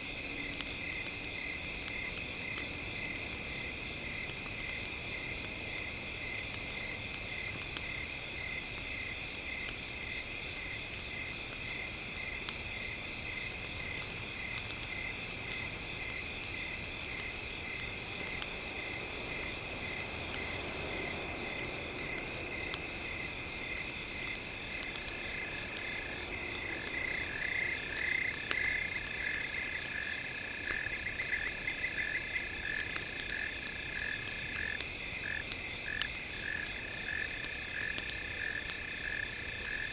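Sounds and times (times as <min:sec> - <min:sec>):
crickets and insects trilling: 0:00.0 - 0:39.9
faint campfire crackles: 0:00.0 - 0:39.9
frogs croaking: 0:07.4 - 0:39.9.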